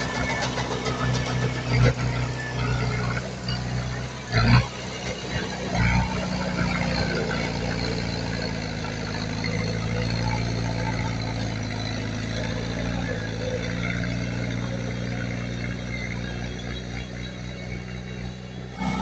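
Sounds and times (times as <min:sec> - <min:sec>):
diesel engine low drone: 0:00.0 - 0:19.0.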